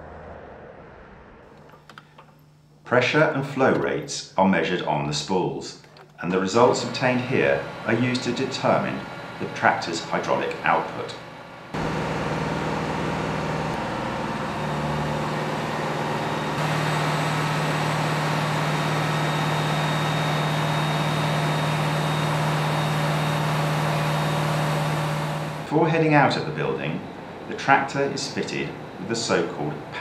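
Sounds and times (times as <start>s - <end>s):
tractor engine hum: 1.5s - 30.0s.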